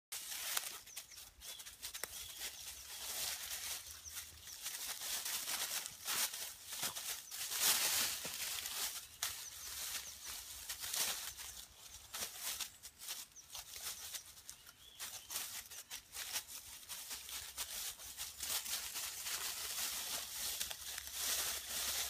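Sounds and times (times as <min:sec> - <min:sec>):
dry leaves rustling and crunching: 0:00.1 - 0:22.0.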